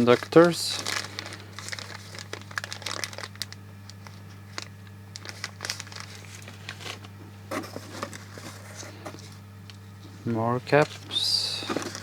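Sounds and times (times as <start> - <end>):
plastic bags crinkling: 0.0 - 9.3, 10.7 - 12.0
steady low hum: 0.0 - 12.0.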